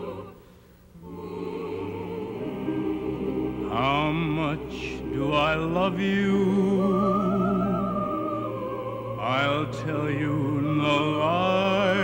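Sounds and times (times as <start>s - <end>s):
sustained instrumental accompaniment: 1.0s - 12.0s.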